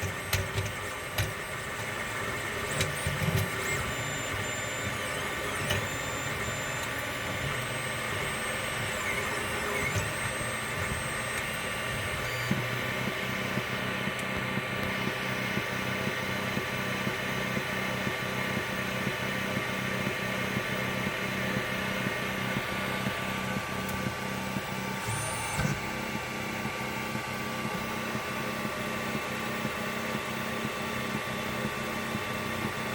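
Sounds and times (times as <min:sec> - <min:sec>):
printer motors whining: 0:00.0 - 0:32.9.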